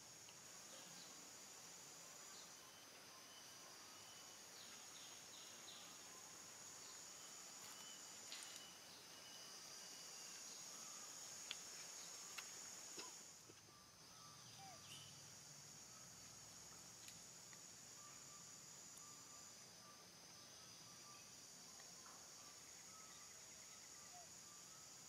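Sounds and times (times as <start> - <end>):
high-pitched insect drone: 0.6 - 25.0.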